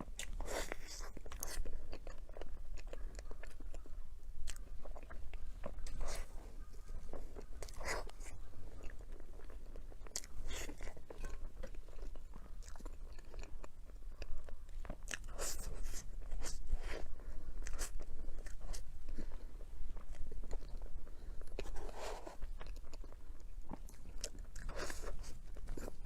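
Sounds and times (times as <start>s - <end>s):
person chewing crunchy dessert: 0.0s - 26.0s.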